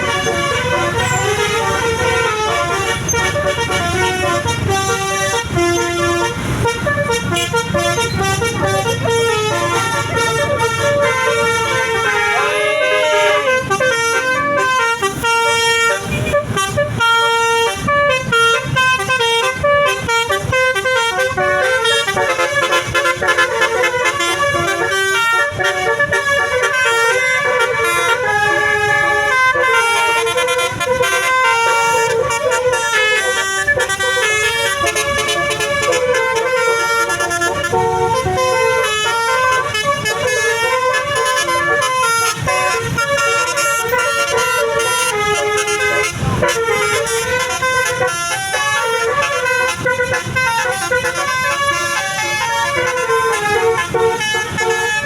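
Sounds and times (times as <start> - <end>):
multi-tone musical horn: 0.0 - 55.0.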